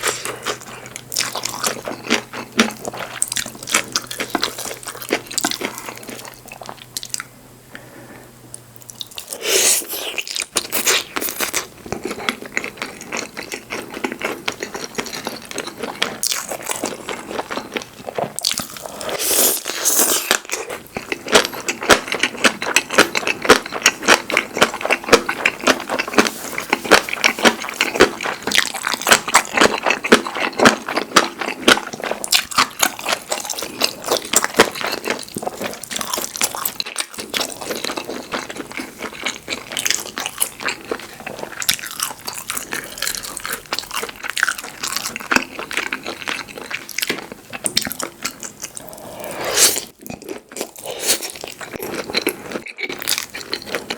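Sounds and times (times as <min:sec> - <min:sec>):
person chewing and biting food: 0:00.0 - 0:07.3, 0:08.8 - 0:53.9.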